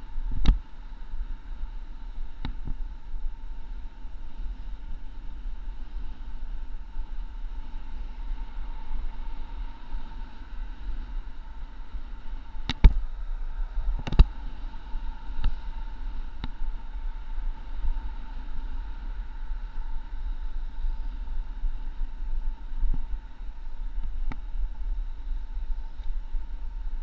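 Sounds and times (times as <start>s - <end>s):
faint steady whine: 0.0s - 27.0s
wind on microphone: 0.0s - 27.0s.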